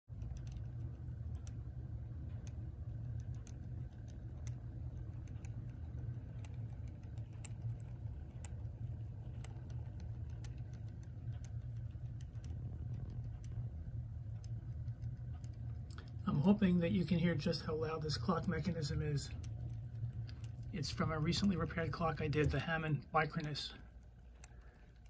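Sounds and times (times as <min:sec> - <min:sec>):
clock movement humming: 0:00.1 - 0:25.0
light ticking and rattling: 0:00.1 - 0:25.0.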